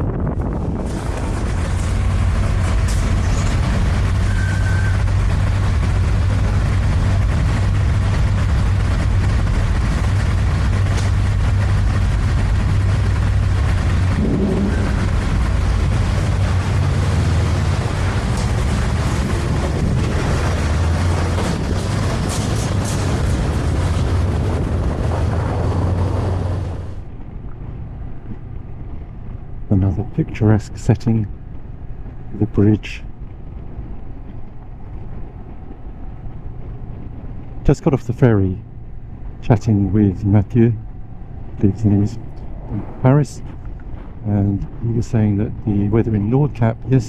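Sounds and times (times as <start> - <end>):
vehicle engine running: 0.0 - 47.0
wind noise: 0.0 - 47.0.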